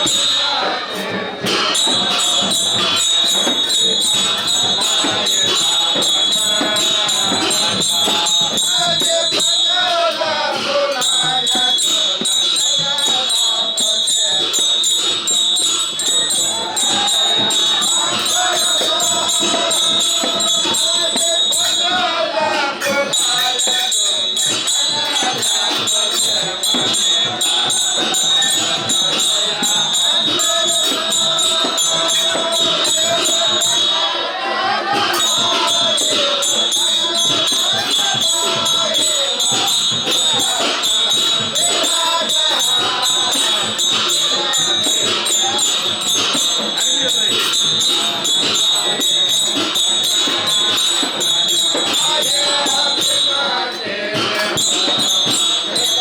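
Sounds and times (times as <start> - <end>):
jingling cymbals: 0.0 - 56.0
rapid drum strokes: 0.0 - 56.0.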